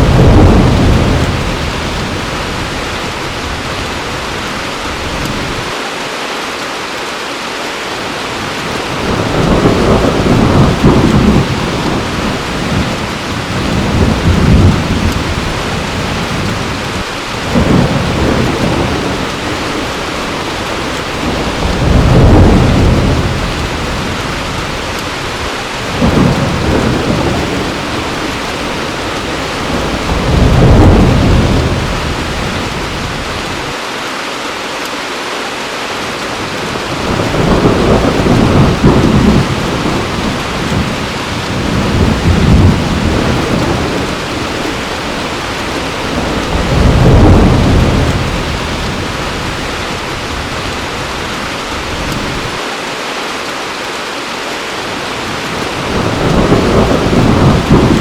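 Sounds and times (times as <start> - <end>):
thunder rolling: 0.0 - 5.8, 8.6 - 33.8, 36.4 - 52.6, 55.2 - 58.0
heavy rain: 0.0 - 58.0.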